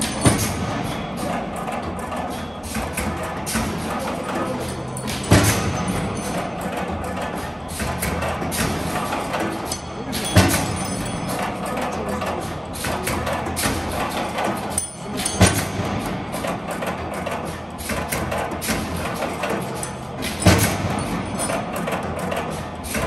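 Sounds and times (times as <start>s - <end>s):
music with busy percussion: 0.0s - 23.0s.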